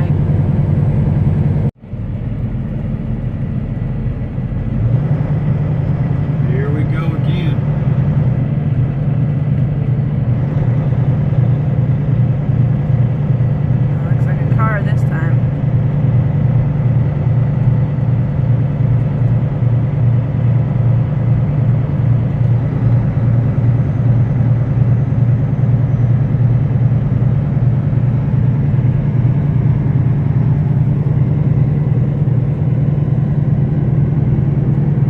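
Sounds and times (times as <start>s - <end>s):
road noise: 0.0s - 35.0s
truck diesel engine droning: 0.0s - 35.0s.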